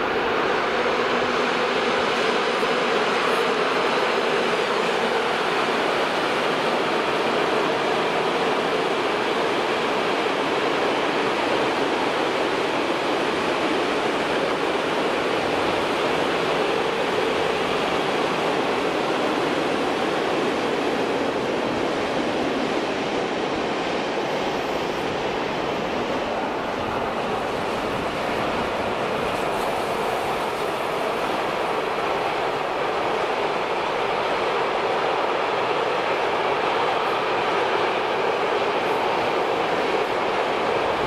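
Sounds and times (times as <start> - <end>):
freight train wheels on track: 0.0 - 41.0.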